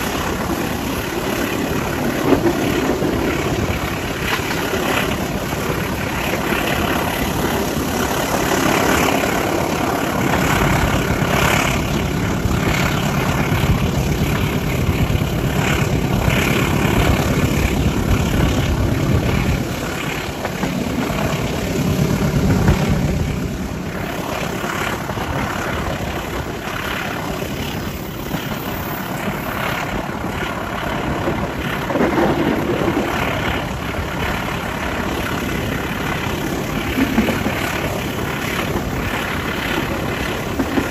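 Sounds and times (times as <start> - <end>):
diesel locomotive running: 0.0 - 40.9
rumble of moving train: 0.0 - 40.9.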